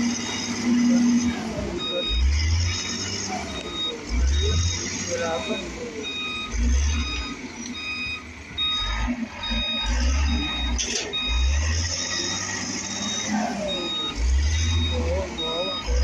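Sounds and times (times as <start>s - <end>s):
electronic warning beeps: 0.0s - 16.0s.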